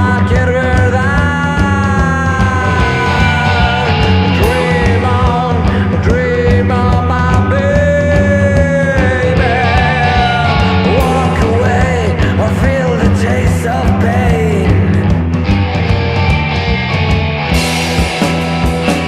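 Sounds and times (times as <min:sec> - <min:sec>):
surf punk rock band: 0:00.0 - 0:19.0.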